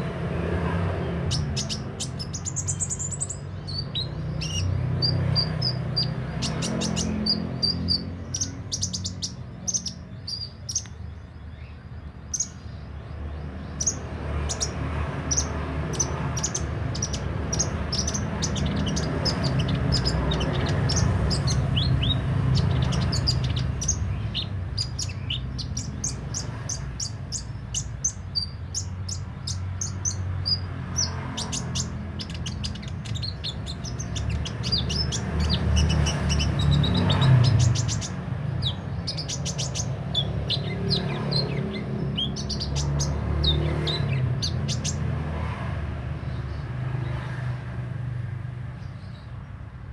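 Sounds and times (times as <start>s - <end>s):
bird singing high chips: 1.2s - 12.8s, 13.6s - 45.2s.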